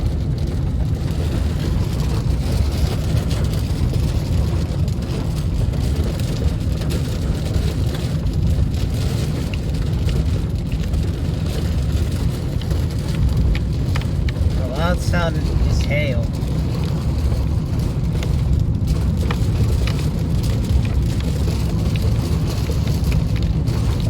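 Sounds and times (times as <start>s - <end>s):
hail clattering: 0.0s - 24.0s
wind rumbling on microphone: 0.0s - 24.0s.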